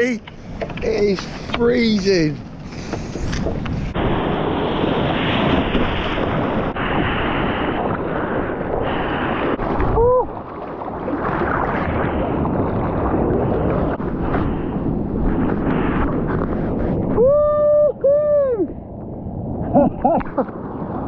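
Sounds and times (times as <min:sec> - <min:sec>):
breaking surf: 0:00.0 - 0:18.3
wind buffeting microphone: 0:00.0 - 0:21.0.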